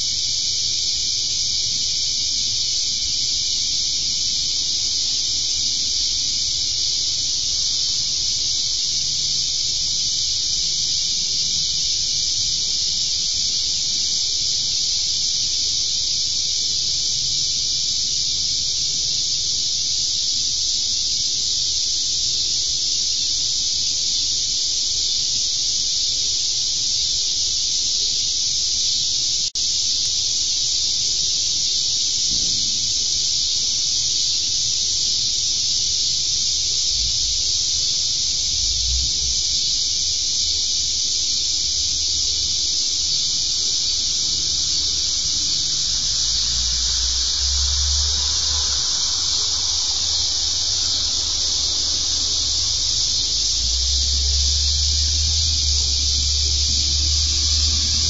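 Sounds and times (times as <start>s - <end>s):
loud high-pitched hiss: 0.0s - 58.0s.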